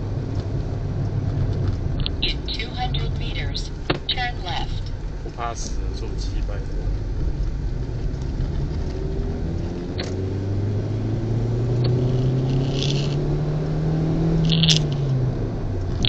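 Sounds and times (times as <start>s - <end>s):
car engine accelerating: 0.0s - 16.0s
road rumble: 0.0s - 16.0s.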